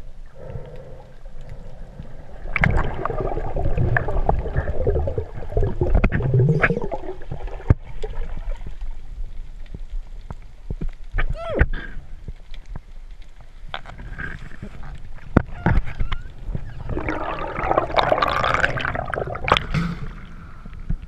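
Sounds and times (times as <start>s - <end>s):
muffled underwater water gurgling: 0.0s - 9.9s, 14.0s - 21.0s.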